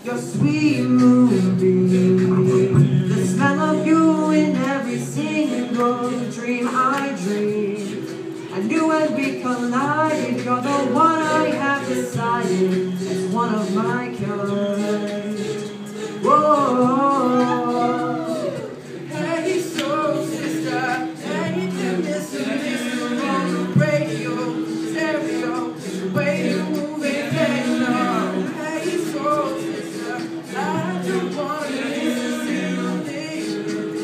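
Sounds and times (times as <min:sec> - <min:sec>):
a cappella group singing: 0:00.0 - 0:34.0.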